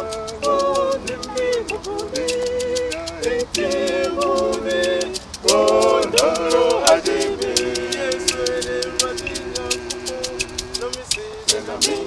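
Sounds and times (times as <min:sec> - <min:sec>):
shaker rattle beat: 0:00.0 - 0:12.0
voices singing together: 0:00.0 - 0:12.0.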